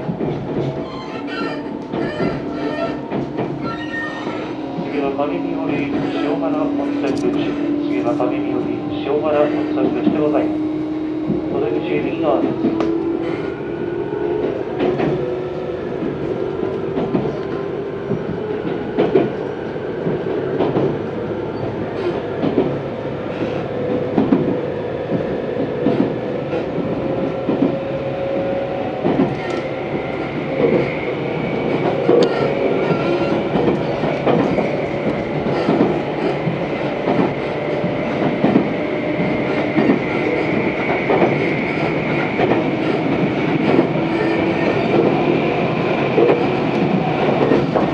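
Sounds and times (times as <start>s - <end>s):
train wheels clacking over joints: 0.0s - 8.6s, 15.9s - 47.9s.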